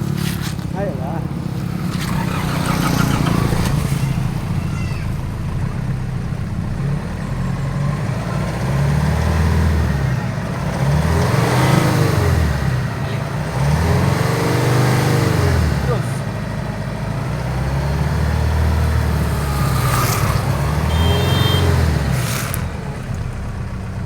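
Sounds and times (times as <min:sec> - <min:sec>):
engine idling and revving: 0:00.0 - 0:24.0.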